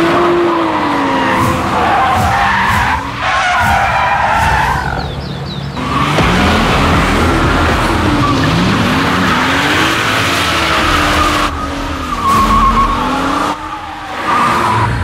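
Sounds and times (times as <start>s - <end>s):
car engine revving hard: 0.0s - 3.7s, 5.8s - 15.0s
tyres squealing: 0.0s - 15.0s.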